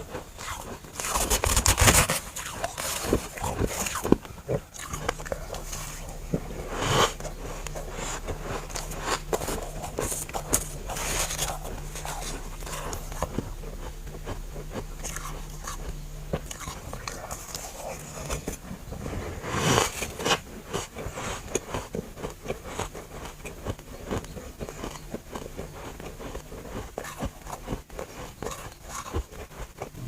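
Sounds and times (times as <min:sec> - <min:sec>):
frost being chewed: 0:00.0 - 0:30.0.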